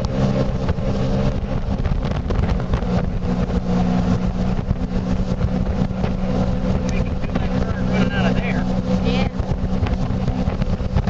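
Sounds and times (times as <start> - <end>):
boat engine droning: 0.0 - 11.0
water and hull noise: 0.0 - 11.0.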